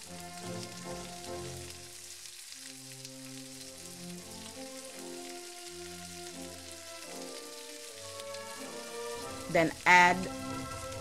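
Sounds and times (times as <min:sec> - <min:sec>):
background music of held notes: 0:00.0 - 0:11.0
chicken sizzling in a frying pan: 0:00.0 - 0:11.0.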